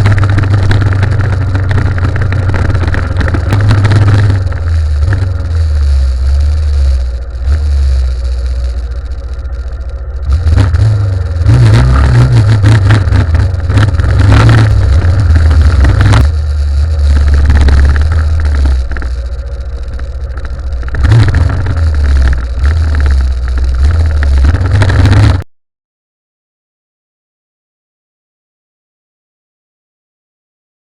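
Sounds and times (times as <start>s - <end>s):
motorcycle engine revving: 0.0s - 25.4s.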